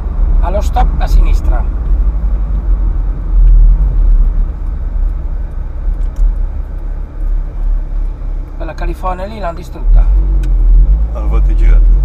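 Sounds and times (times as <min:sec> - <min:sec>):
car engine low rumble: 0:00.0 - 0:12.0
road noise: 0:00.0 - 0:12.0.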